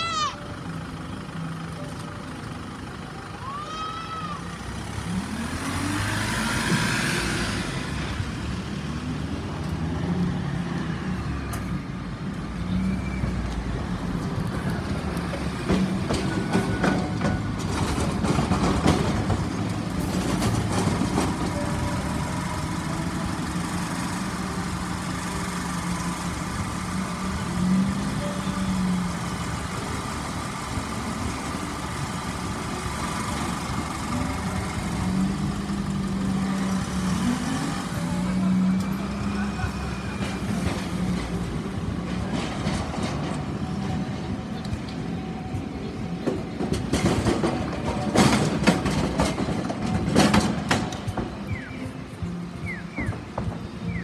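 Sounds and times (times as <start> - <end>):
bus and truck engines passing: 0.0 - 54.0
low hum of idling engines: 0.0 - 54.0.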